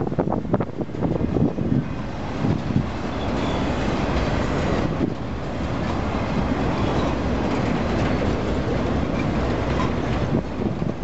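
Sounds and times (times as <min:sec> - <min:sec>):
steel wheels on rails: 0:00.0 - 0:11.0.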